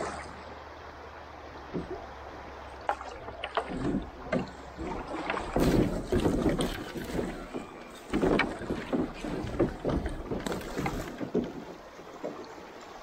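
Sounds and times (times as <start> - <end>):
water slapping against hull: 0.0 - 0.5, 1.5 - 13.0
water rushing: 0.0 - 13.0.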